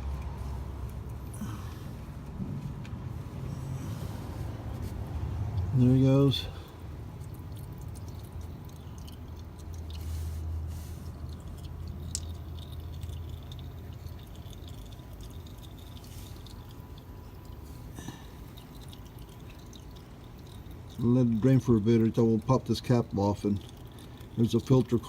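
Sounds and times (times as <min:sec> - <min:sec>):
oil dripping and trickling: 0:00.0 - 0:25.0
steady low hum: 0:00.0 - 0:25.0.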